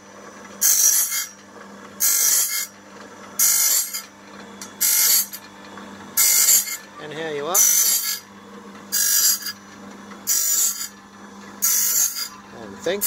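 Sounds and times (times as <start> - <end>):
motor humming: 0.0 - 13.0
grinding wheel grinding metal: 0.5 - 13.0.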